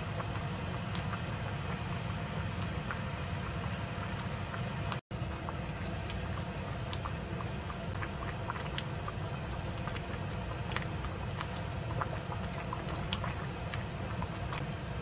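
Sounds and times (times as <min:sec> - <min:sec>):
stew simmering with bubble pops: 0:00.0 - 0:15.0.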